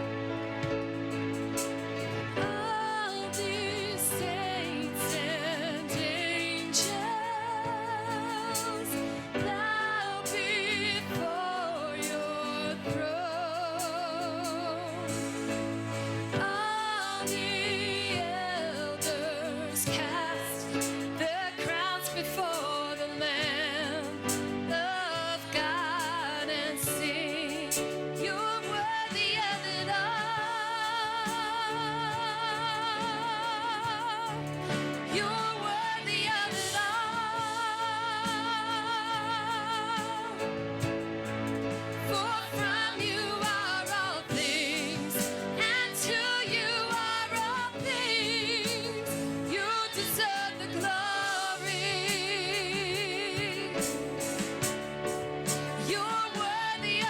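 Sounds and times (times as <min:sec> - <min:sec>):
band accompaniment: 0:00.0 - 0:57.0
gospel singing with vibrato: 0:00.0 - 0:57.0.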